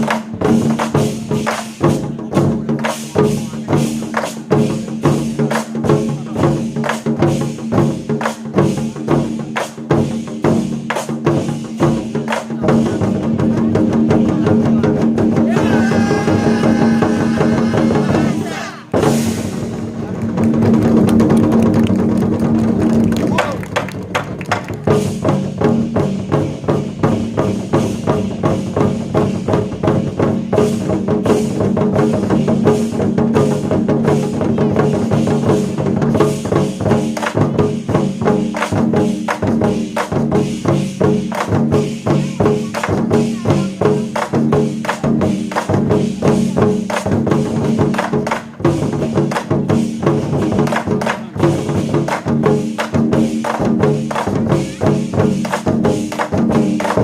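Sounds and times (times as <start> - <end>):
war drums rapid strikes: 0.0 - 57.0.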